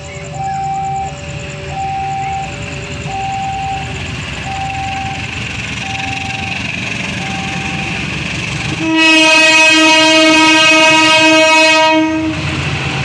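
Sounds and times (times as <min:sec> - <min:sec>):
diesel locomotive rumble: 0:00.0 - 0:13.0
level-crossing alarm tone: 0:00.0 - 0:13.0.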